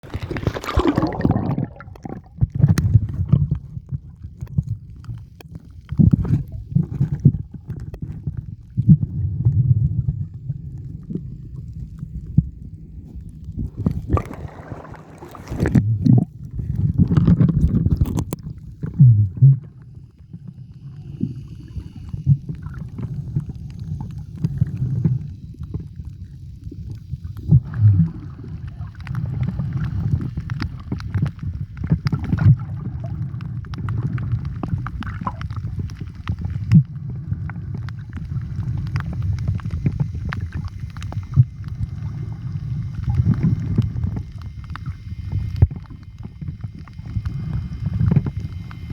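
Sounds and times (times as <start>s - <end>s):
muffled underwater water rumble: 0.0s - 48.9s.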